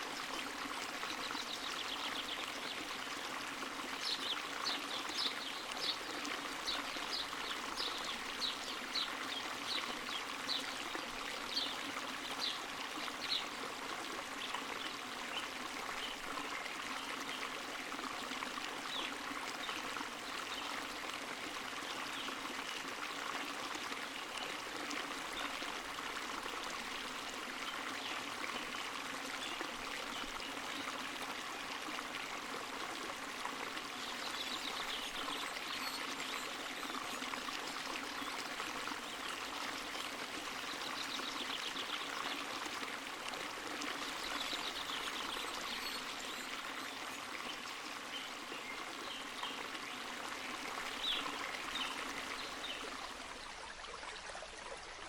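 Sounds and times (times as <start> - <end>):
water trickling from spring: 0.0 - 55.0.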